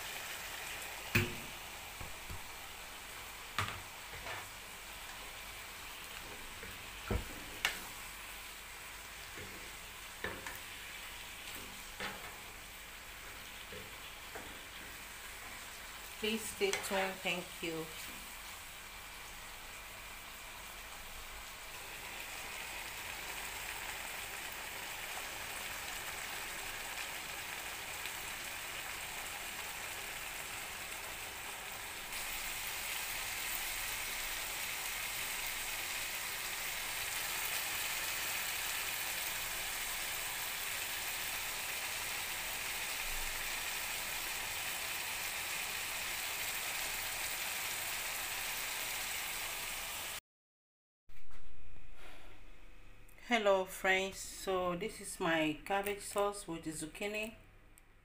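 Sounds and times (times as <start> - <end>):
food sizzling in frying pan: 0.0 - 50.2.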